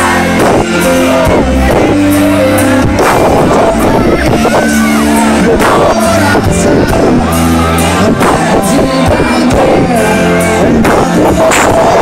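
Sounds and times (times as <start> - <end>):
loud band music: 0.0 - 12.0
person singing: 0.0 - 12.0.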